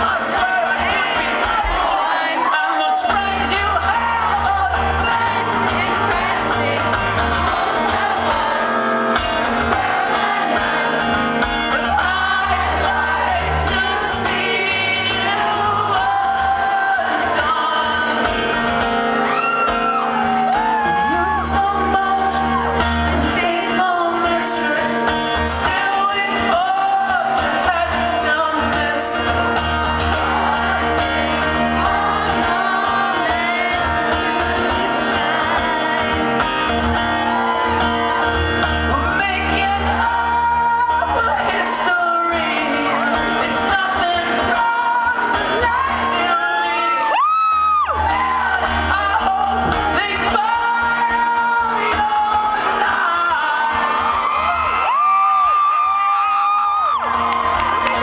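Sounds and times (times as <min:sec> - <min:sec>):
male singer: 0:00.0 - 0:08.8, 0:09.4 - 0:56.8
strummed acoustic guitar: 0:00.0 - 0:54.8
crowd shouting and singing along: 0:00.0 - 0:58.0.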